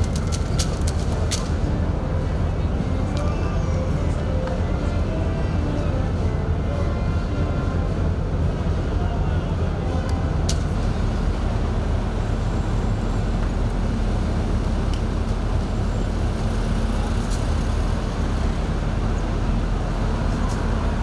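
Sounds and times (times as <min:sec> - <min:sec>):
engine rumble with hum: 0:00.0 - 0:21.0.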